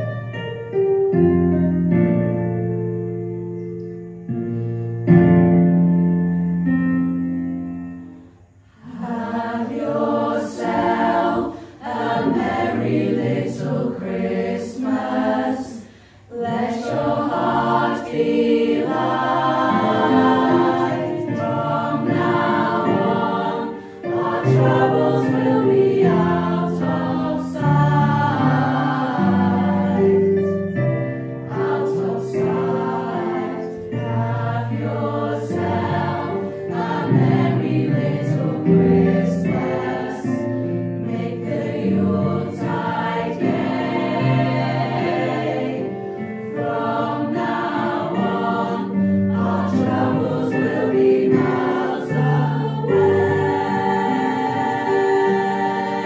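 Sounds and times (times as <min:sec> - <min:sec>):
mixed choir singing: 0:08.8 - 0:56.0.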